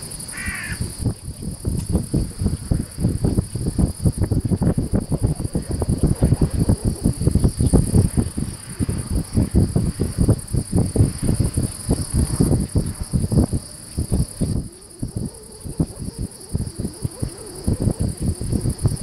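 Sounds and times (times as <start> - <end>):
crickets chirping: 0.0 - 19.0
wind buffeting microphone: 0.0 - 19.0.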